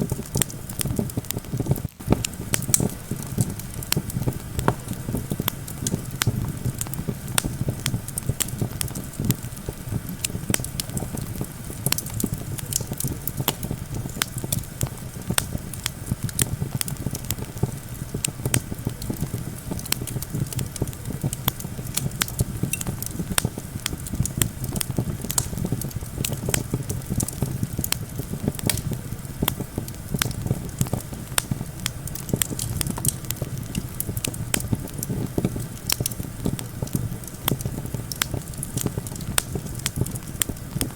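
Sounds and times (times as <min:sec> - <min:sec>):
campfire crackling and popping: 0:00.0 - 0:40.9
low rumble of wind: 0:00.0 - 0:40.9.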